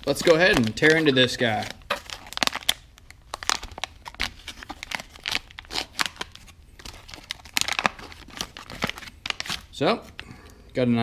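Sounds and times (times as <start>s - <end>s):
plastic packaging ripping: 0.0s - 9.8s.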